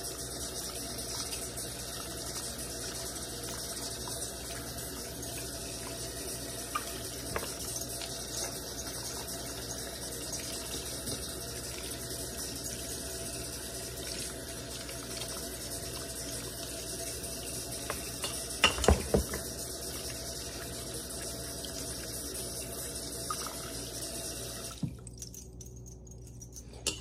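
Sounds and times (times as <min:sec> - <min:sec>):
meat rinsed by hand: 0:00.0 - 0:25.0
kitchen faucet running: 0:00.0 - 0:25.4.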